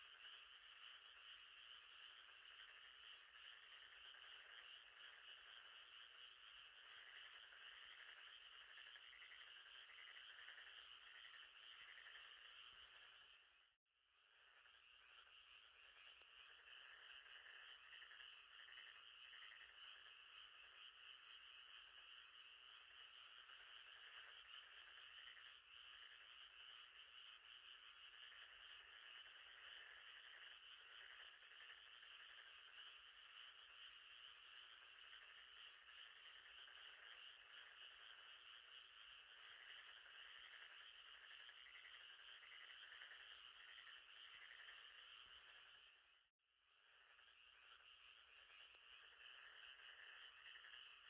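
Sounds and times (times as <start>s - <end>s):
chorus of frogs trilling: 0.0s - 13.6s, 14.2s - 46.2s, 46.8s - 51.0s.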